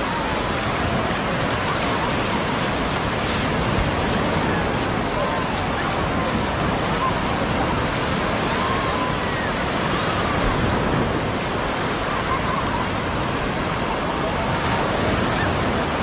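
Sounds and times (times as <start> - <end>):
faint distant voices: 0.0 - 16.0
waves breaking on beach: 0.0 - 16.0.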